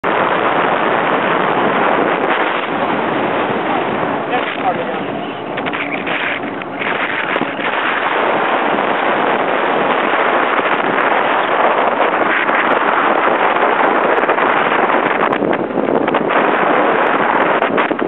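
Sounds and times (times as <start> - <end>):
vehicle road noise: 0.0 - 18.0
wind rushing over microphone: 0.0 - 18.0.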